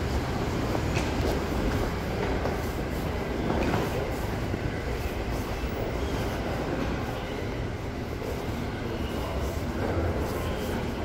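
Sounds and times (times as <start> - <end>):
train running on tracks: 0.0 - 11.0.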